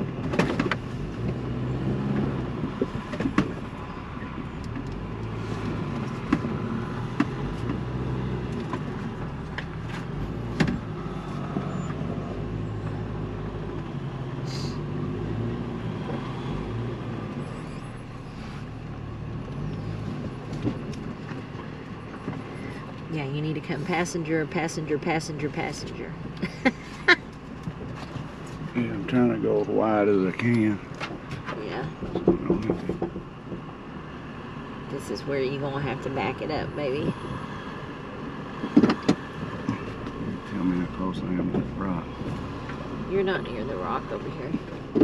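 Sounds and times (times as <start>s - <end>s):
engine running at low revs: 0.0s - 33.9s, 38.0s - 45.0s.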